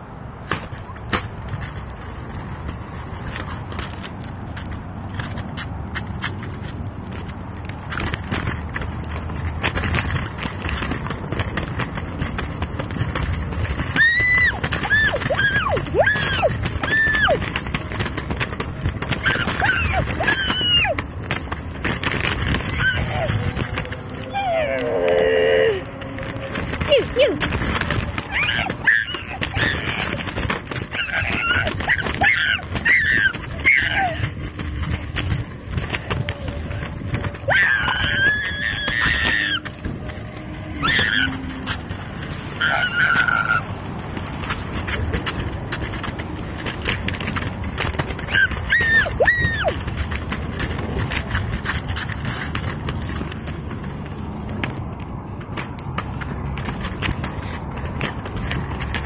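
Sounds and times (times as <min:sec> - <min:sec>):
scooter wheels rumbling on concrete: 0:00.0 - 0:59.0.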